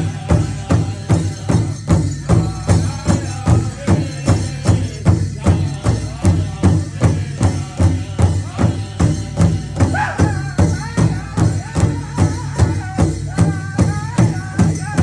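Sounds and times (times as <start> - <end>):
drum beaten in steady rhythm: 0.0 - 15.0
voices singing: 0.0 - 15.0.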